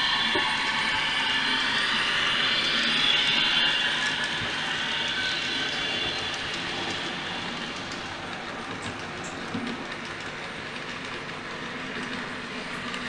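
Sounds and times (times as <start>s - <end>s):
model train running sound: 0.0s - 13.0s.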